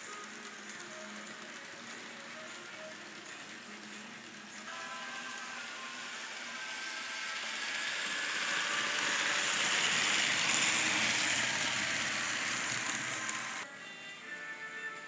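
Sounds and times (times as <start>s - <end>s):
model train running past: 0.0s - 13.7s.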